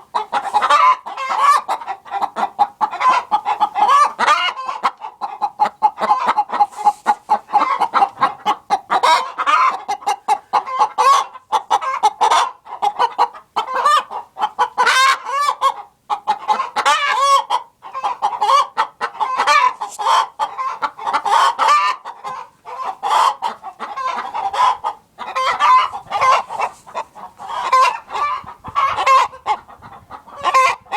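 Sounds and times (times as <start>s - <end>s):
hens clucking and cackling: 0.0s - 30.9s.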